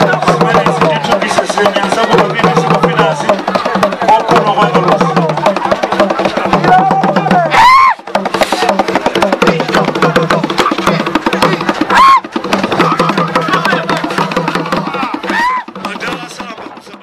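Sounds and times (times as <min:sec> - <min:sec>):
voices singing: 0:00.0 - 0:16.7
fast dense drumming: 0:00.0 - 0:17.0.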